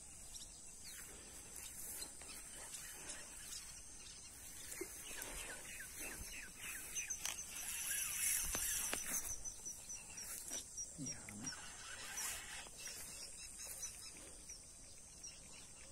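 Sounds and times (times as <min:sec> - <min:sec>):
birds chirping: 0:00.0 - 0:15.9
high insect buzz: 0:00.1 - 0:15.0.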